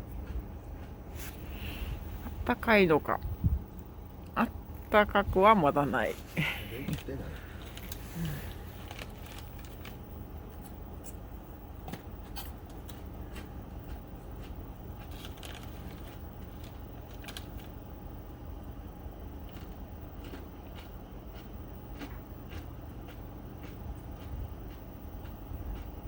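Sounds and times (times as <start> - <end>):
low background noise: 0.0 - 26.0.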